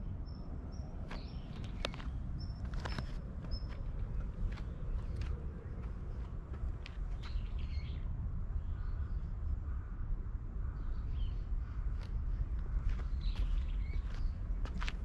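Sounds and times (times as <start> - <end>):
small birds chirping: 0.0 - 9.9, 10.6 - 15.0
steady low rumble: 0.0 - 15.0.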